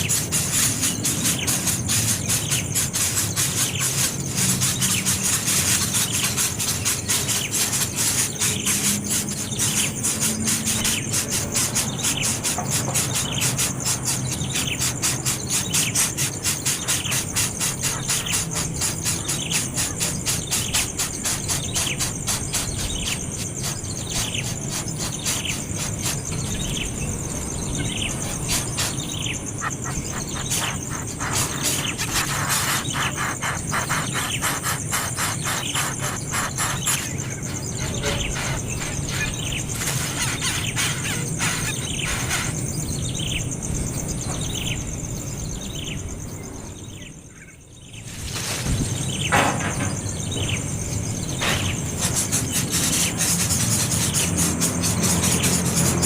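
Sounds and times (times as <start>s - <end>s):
baby bird chirping: 0.0s - 46.0s, 48.0s - 56.0s
insect chorus: 0.0s - 56.0s.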